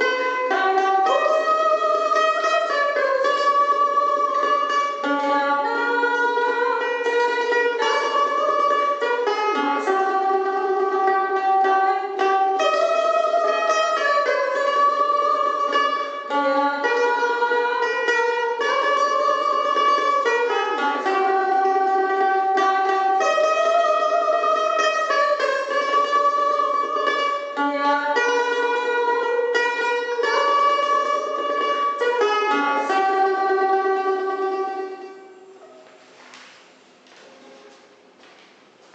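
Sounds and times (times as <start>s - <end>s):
mandolin melody with tremolo picking: 0.0s - 35.9s.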